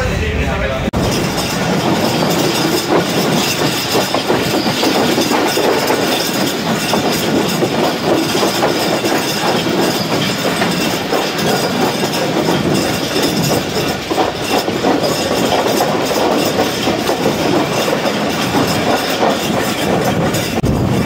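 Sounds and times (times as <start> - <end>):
train wheels rattling on rails: 0.0 - 21.0.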